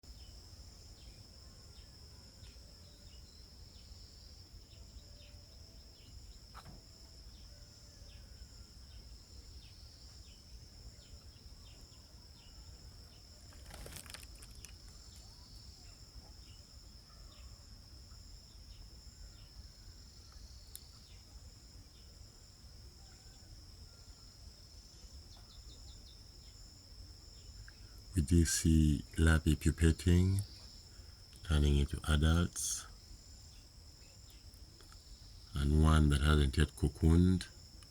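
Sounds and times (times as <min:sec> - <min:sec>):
high-pitched insect chorus: 0:00.0 - 0:37.9.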